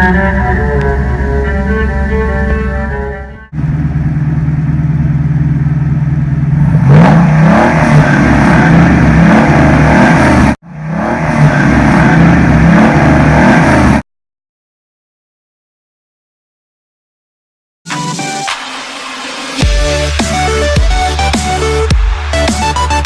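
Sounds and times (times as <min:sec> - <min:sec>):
car engine revving: 0:00.0 - 0:14.0, 0:17.9 - 0:23.0.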